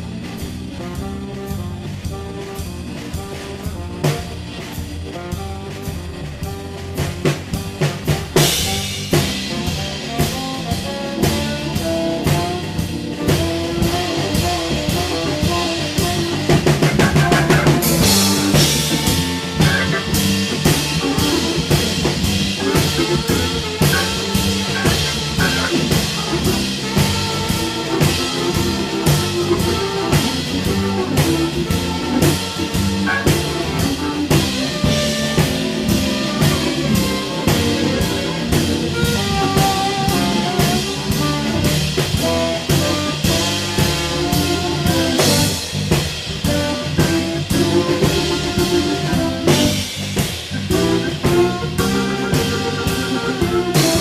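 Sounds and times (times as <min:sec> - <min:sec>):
drum kit beat: 0:00.0 - 0:54.0
hammond organ: 0:00.0 - 0:54.0
rhythm and blues band playing: 0:00.0 - 0:54.0.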